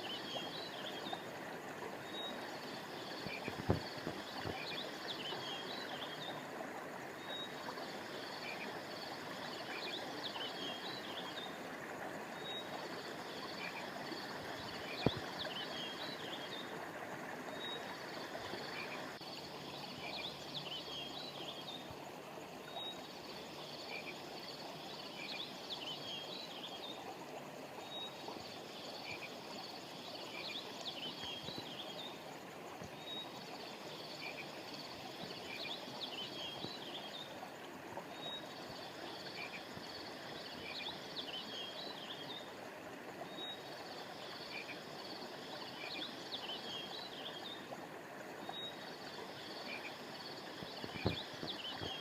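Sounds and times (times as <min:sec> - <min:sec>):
flowing river water: 0:00.0 - 0:52.0
frogs and insects chirping: 0:00.0 - 0:52.0.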